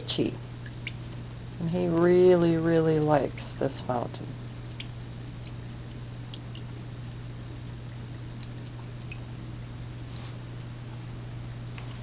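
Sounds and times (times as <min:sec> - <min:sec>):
small water drips: 0:00.0 - 0:12.0
trickling water: 0:00.0 - 0:12.0
water fountain pump hum: 0:00.0 - 0:12.0.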